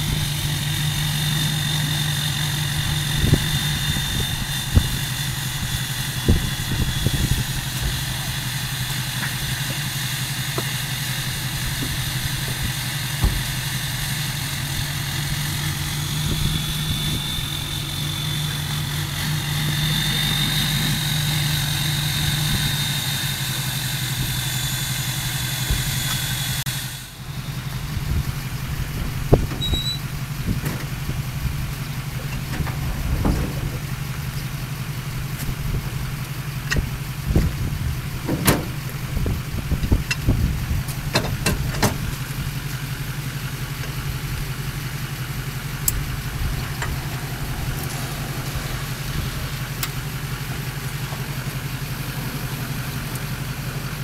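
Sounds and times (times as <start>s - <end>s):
pickup truck engine idling: 0.0s - 54.0s.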